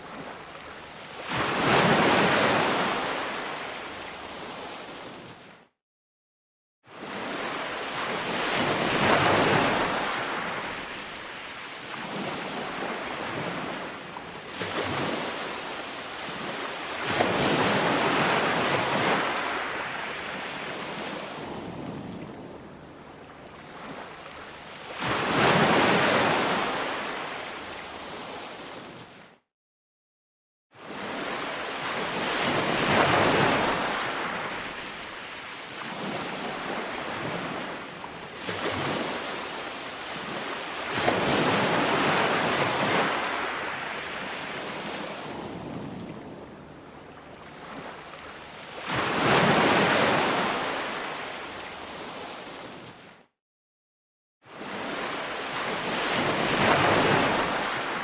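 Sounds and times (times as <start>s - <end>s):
sea waves breaking on shore: 0.0s - 5.7s, 6.9s - 29.4s, 30.8s - 53.3s, 54.5s - 58.0s.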